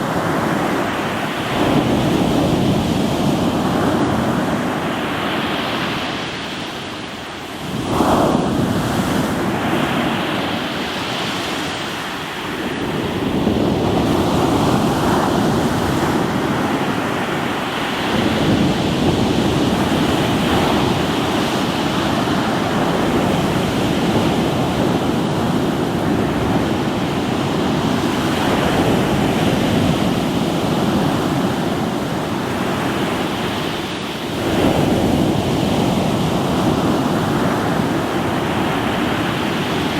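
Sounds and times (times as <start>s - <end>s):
waves breaking on rocky shore: 0.0s - 39.9s
wind on microphone: 0.0s - 39.9s.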